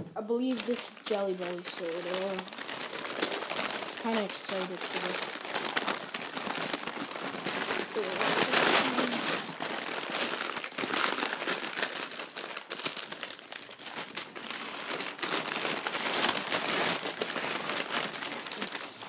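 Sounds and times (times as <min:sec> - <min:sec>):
packing paper crumpling: 0:00.3 - 0:19.0.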